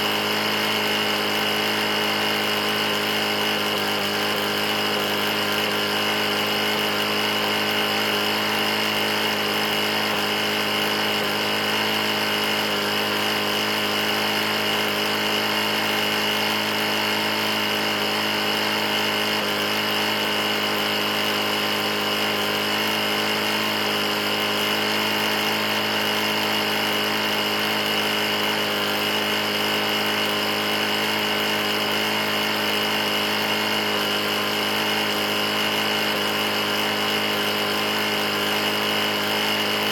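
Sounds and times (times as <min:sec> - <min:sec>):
lawn mower engine knocking: 0:00.0 - 0:39.9.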